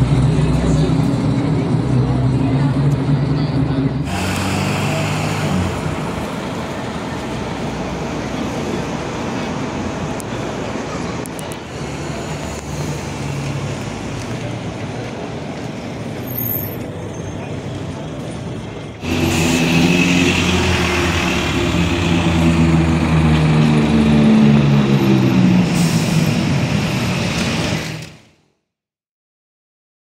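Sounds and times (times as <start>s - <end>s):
bus diesel engine passing: 0.0s - 28.4s
car driving off: 0.0s - 28.4s.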